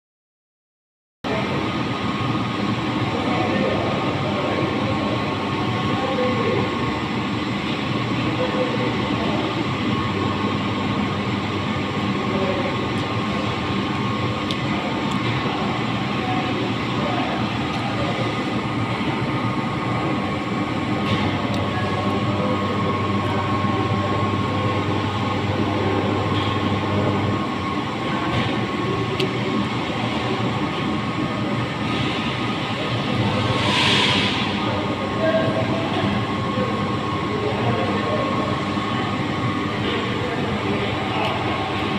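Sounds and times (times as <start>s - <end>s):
constant hum: 1.3s - 41.9s.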